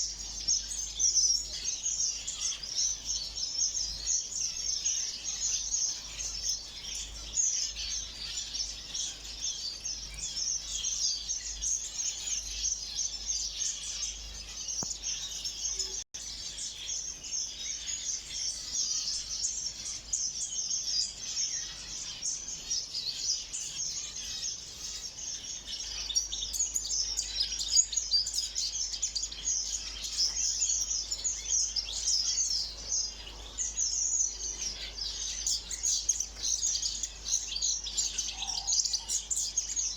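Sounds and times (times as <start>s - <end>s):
small birds chirping and chattering: 0.0s - 39.9s.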